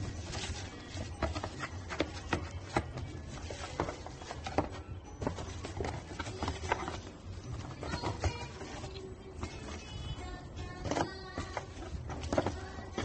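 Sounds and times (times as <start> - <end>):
cardboard and bubble wrap crinkling: 0.0 - 13.0.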